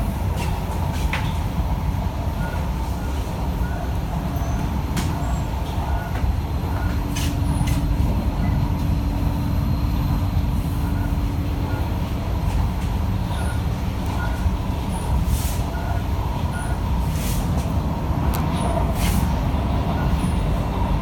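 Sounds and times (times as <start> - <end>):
wheels rumbling on track: 0.0 - 21.0.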